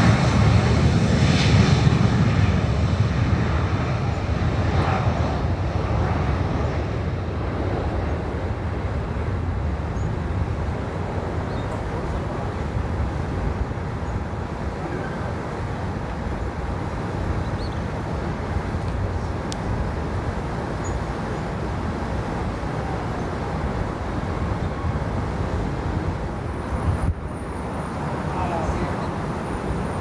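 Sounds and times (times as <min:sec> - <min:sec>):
distant aircraft engines rumbling: 0:00.0 - 0:30.0.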